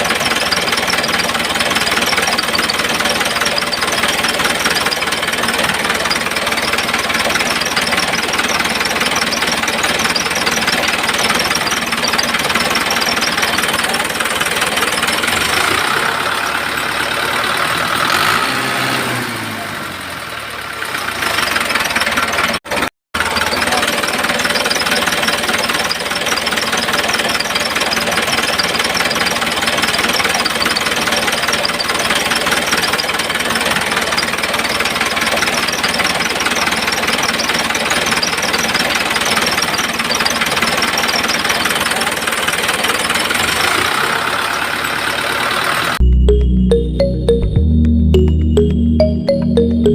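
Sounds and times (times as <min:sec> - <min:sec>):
motor running with rattling: 0:00.0 - 0:17.7, 0:21.0 - 0:45.9.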